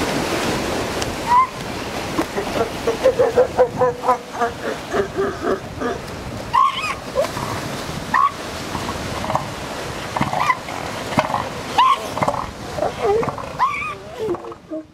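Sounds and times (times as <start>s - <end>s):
surf washing: 0.0s - 14.9s
elephant seals yelping: 1.2s - 1.6s, 2.4s - 7.5s, 8.1s - 14.9s.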